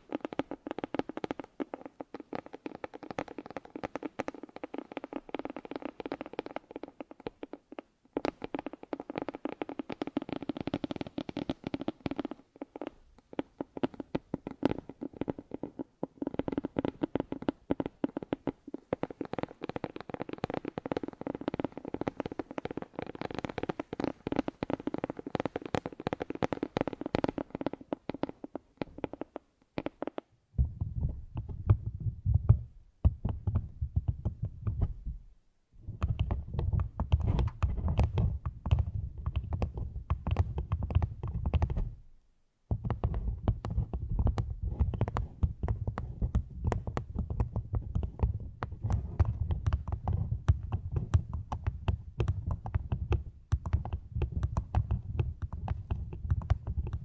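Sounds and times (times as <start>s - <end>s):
crackling and scratching: 0.0s - 32.6s, 35.8s - 42.0s, 42.7s - 57.0s.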